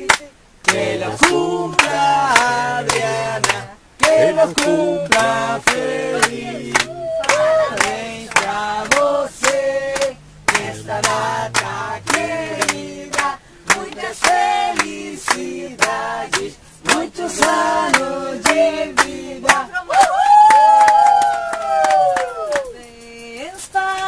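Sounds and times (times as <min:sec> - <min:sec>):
group singing in chorus: 0:00.0 - 0:19.7
hands clapping to beat: 0:00.0 - 0:23.2.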